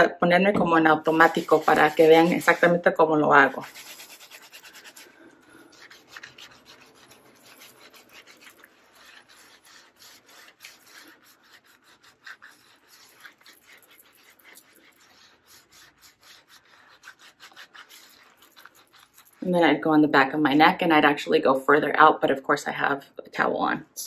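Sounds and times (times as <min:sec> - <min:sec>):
bath gloves scrubbing skin: 0:00.0 - 0:21.2.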